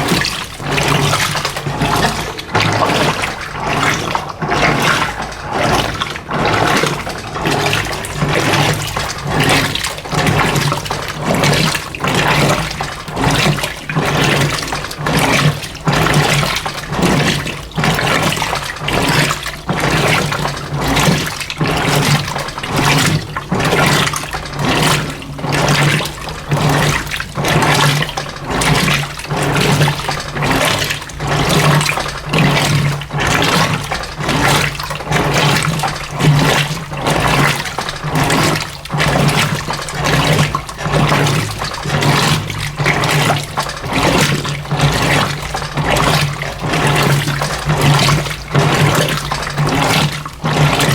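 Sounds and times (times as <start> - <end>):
washing machine motor hum: 0.0 - 50.9
water churning and sloshing: 0.0 - 50.9.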